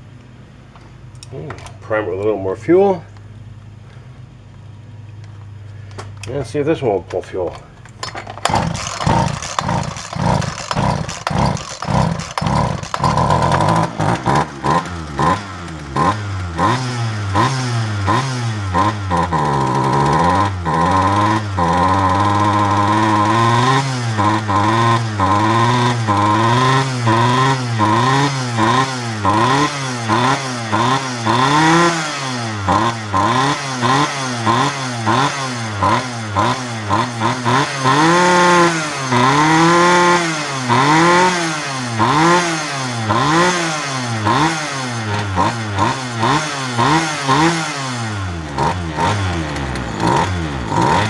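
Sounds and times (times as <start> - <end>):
chainsaw engine revving: 7.4 - 51.0.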